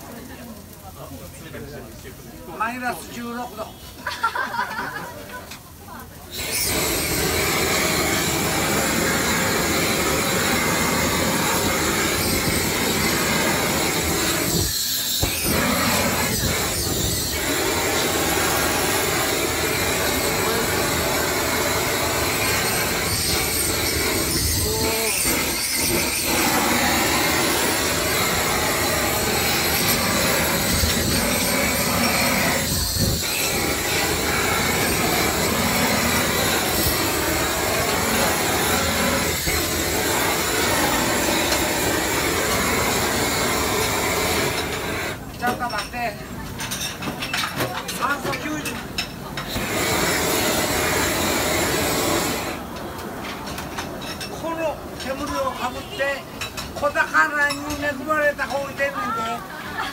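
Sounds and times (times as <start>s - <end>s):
gas torch flame rushing: 0.0s - 45.4s, 49.4s - 55.6s.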